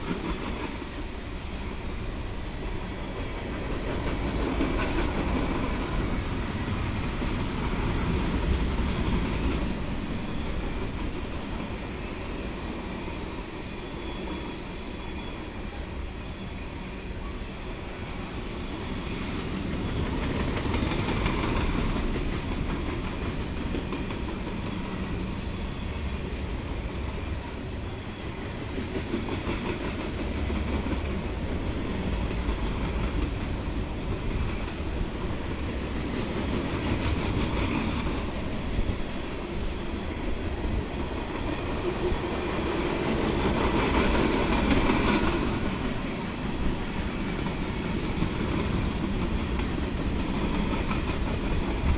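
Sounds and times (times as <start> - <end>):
freight train cars rolling past: 0.0 - 51.9.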